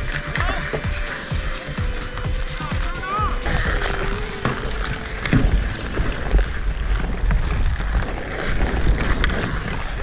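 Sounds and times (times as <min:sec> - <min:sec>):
skate blades scraping ice: 0:00.0 - 0:10.0.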